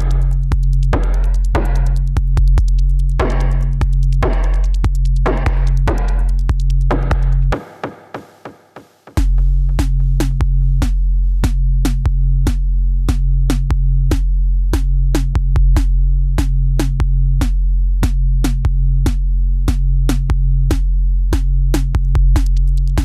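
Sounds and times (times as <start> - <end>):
deep bass: 0.0 - 7.6, 9.2 - 23.0
drum machine beat: 0.0 - 23.0.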